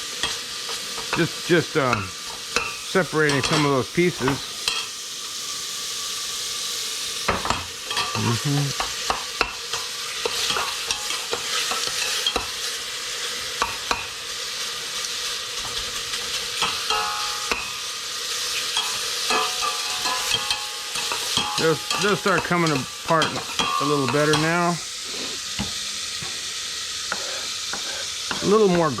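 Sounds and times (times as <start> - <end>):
bacon sizzling in a pan: 0.0 - 29.0.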